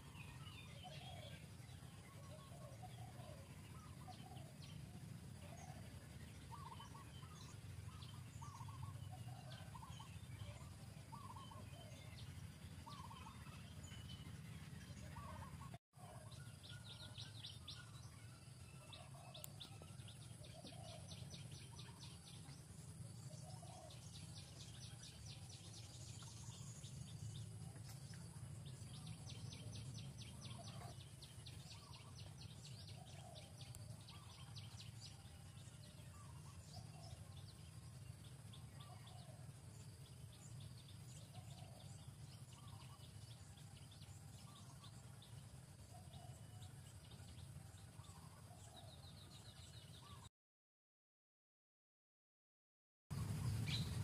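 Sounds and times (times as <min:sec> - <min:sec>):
low steady rumble: 0:00.0 - 0:50.2, 0:53.1 - 0:54.0
birds chirping in high trills: 0:00.0 - 0:50.3, 0:53.1 - 0:54.0.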